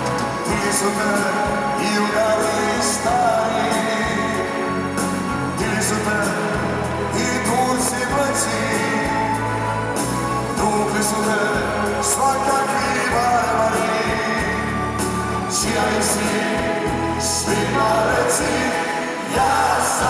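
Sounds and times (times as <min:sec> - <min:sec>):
instrumental backing: 0:00.0 - 0:20.0
men singing: 0:00.4 - 0:09.7, 0:10.3 - 0:20.0.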